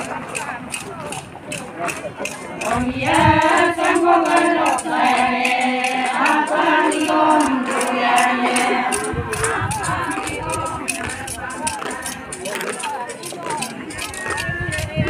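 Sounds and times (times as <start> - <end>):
women singing in unison: 2.6 - 15.0.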